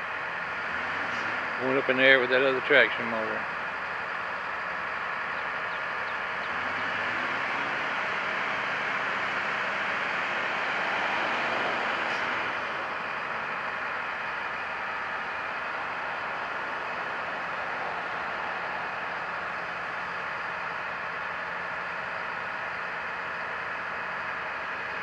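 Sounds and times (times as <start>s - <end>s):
heavy diesel equipment running: 0.0s - 25.0s.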